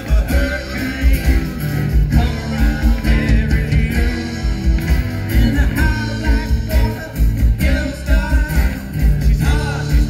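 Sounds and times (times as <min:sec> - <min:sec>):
drums keeping a steady beat: 0:00.0 - 0:10.0
electric and acoustic guitars: 0:00.0 - 0:10.0
live rock band: 0:00.0 - 0:10.0.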